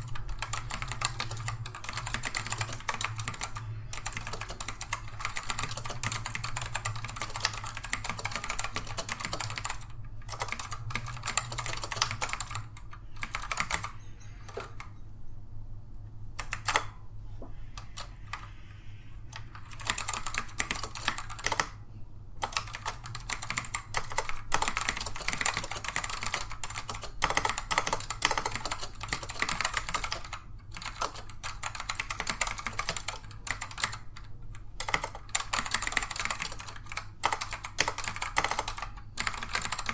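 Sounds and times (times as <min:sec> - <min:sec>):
fast keyboard typing: 0:00.0 - 0:15.0, 0:16.4 - 0:17.0, 0:17.6 - 0:18.7, 0:19.3 - 0:21.8, 0:22.4 - 0:39.9.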